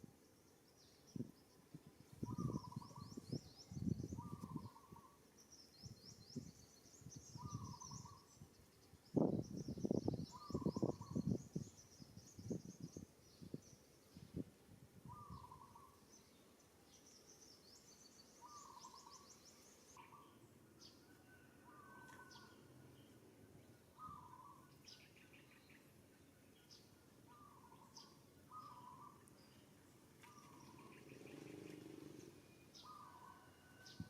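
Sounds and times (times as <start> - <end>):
birds chirping and trilling: 0.2 - 14.4, 15.0 - 34.0.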